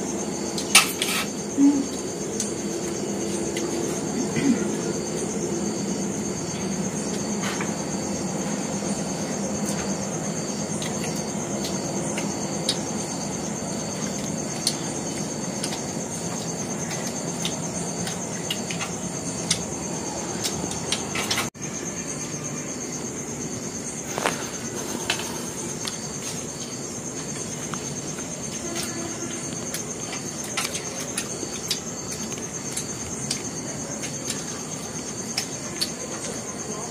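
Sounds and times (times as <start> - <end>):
people chewing food: 0.0 - 21.5, 24.0 - 36.9
high insect drone: 0.0 - 36.9
steady background hiss: 0.0 - 36.9.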